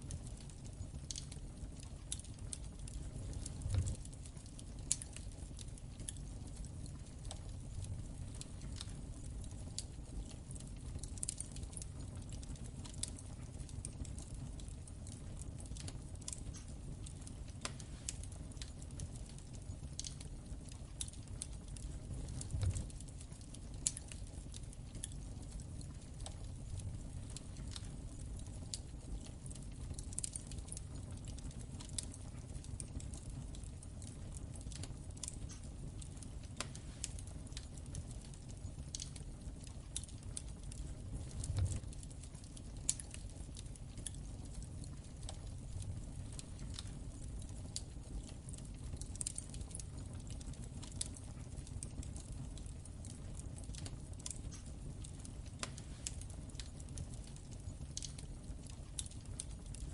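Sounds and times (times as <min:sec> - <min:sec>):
low steady rumble: 0:00.0 - 0:59.9
wood fire crackling: 0:00.0 - 0:59.9.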